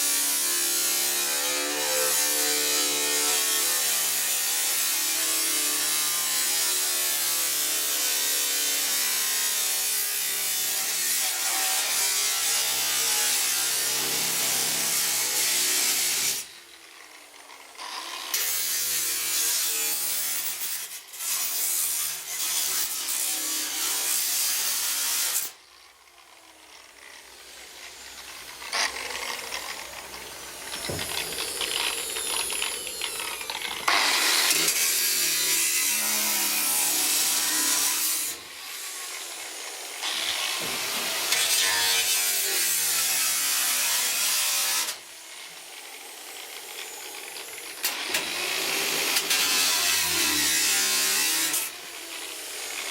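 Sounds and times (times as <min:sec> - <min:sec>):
angle grinder cutting sheet metal: 0:00.0 - 0:25.6, 0:26.2 - 0:52.9.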